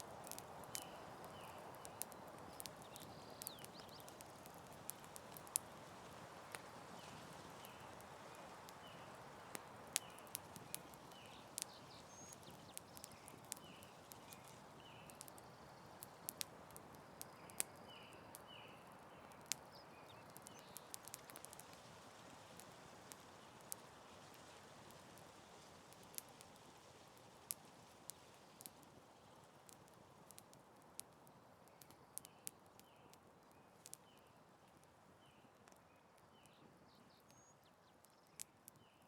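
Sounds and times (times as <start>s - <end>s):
campfire crackling and popping: 0.0s - 39.0s
soft steady hiss: 0.0s - 39.0s.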